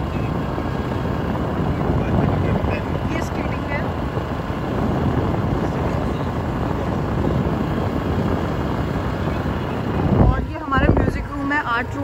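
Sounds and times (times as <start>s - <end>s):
road noise: 0.0s - 12.0s
wind buffeting microphone: 0.0s - 12.0s
wind rushing: 0.0s - 12.0s.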